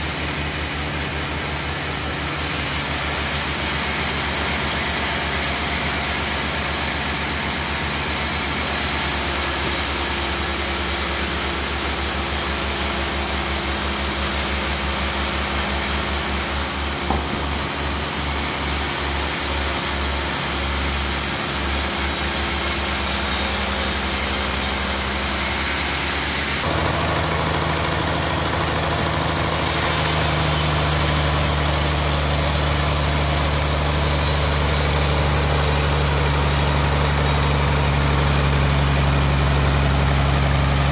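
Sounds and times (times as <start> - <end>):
bandsaw cutting a log: 0.0 - 40.9.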